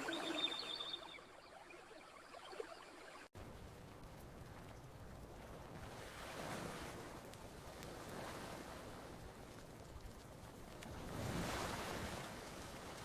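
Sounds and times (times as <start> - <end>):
faint campfire crackles: 0.0 - 13.0
gentle ocean waves: 0.0 - 13.0.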